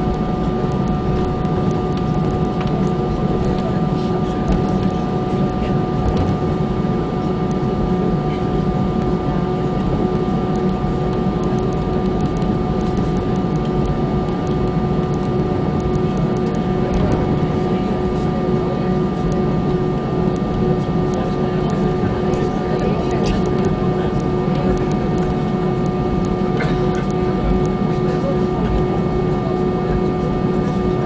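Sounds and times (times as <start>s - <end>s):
jet engines rumbling and whining: 0.0s - 31.0s.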